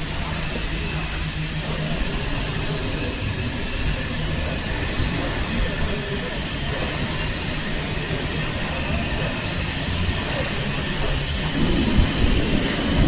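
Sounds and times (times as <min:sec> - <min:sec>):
truck wash high hiss: 0:00.0 - 0:13.0
truck wash low rumble: 0:00.0 - 0:13.0.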